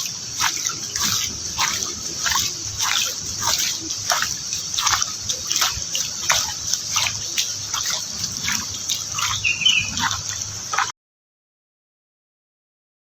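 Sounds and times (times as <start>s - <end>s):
heavy rain falling: 0.0s - 10.8s
water dripping: 0.0s - 10.9s.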